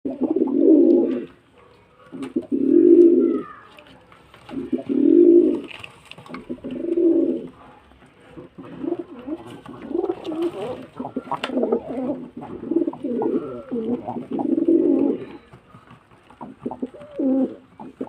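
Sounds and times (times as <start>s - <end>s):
pigeon cooing: 0.1s - 3.8s, 4.5s - 18.0s.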